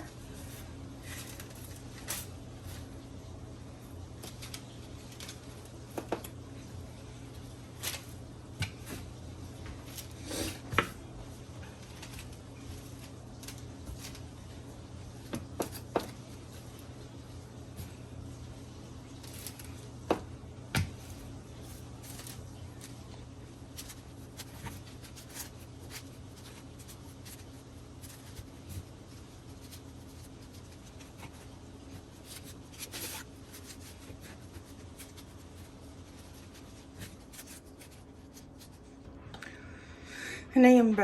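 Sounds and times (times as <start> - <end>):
paper crinkling: 0.0 - 6.7, 7.3 - 20.0, 20.9 - 39.0
steady low hum: 0.0 - 41.0.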